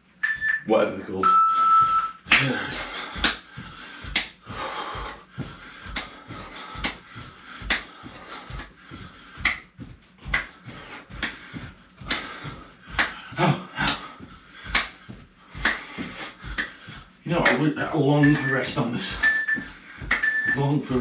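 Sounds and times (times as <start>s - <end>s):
feet landing: 1.5s - 21.0s
hands clapping: 1.8s - 21.0s.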